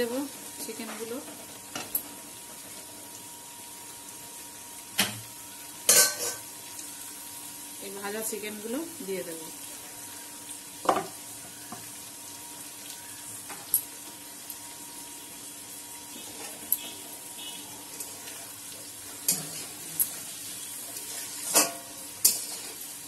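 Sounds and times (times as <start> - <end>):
gravy boiling and sizzling: 0.0 - 23.0.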